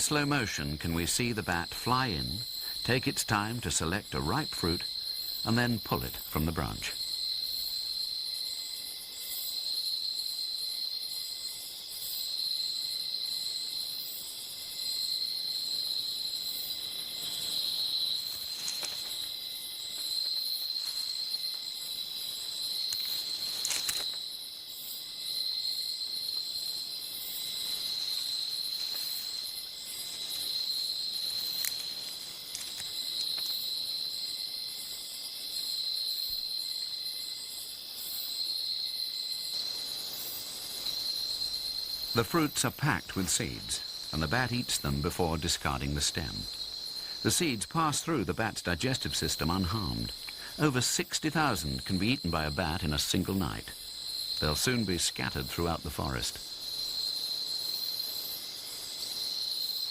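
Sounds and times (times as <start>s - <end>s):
higher insect calls: 0.0s - 59.9s
insects chirring: 0.0s - 59.9s.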